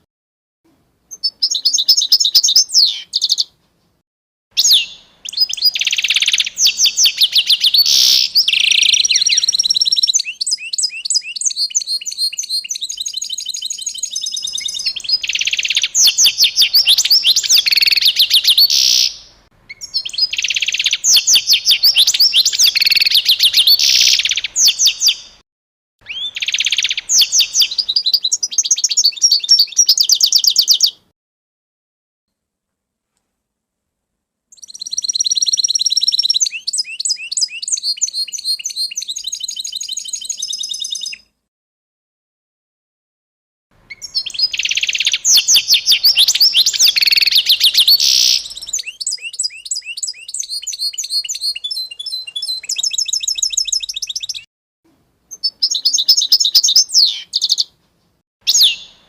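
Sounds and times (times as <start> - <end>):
songbird chirping and trilling: 1.1 - 3.6, 4.6 - 25.4, 26.0 - 31.1, 34.5 - 41.4, 43.8 - 54.5, 55.3 - 57.8, 58.5 - 59.0.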